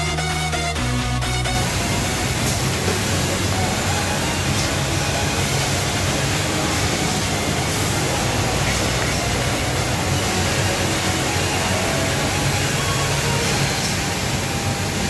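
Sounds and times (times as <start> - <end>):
low machine hum: 1.6 - 15.0
woodworking machinery rushing: 1.6 - 15.0.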